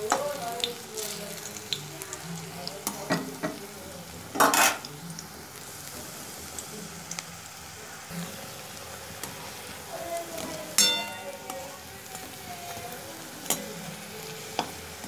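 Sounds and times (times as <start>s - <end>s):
fritters deep-frying in oil: 0.0s - 15.0s.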